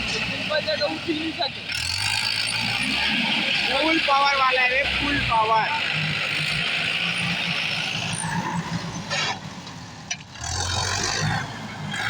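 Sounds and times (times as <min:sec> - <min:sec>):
diesel engine at full power: 0:00.0 - 0:12.0.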